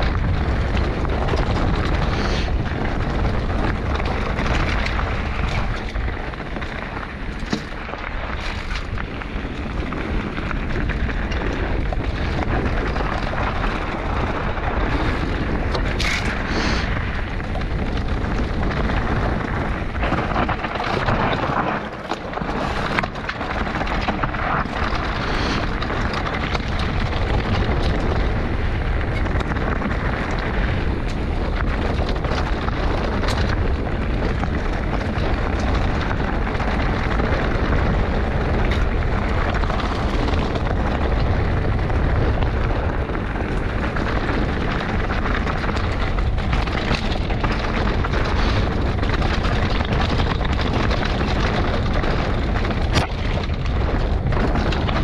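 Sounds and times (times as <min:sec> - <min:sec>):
bike tyres rumbling over ground: 0:00.0 - 0:55.0.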